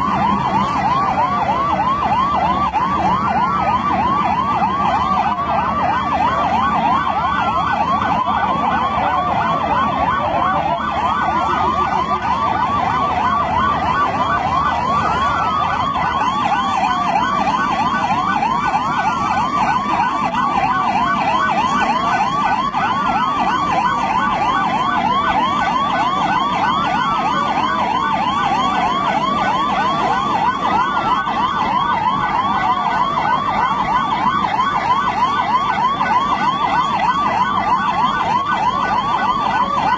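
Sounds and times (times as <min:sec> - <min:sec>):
falling siren sweep: 0:00.0 - 0:39.9
yelping emergency sirens: 0:00.0 - 0:39.9.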